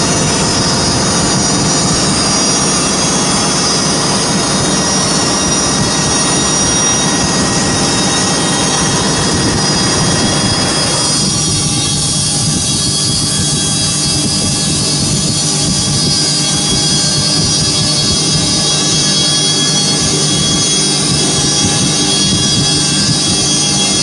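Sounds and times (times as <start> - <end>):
grinding machine whining: 0.0 - 24.0.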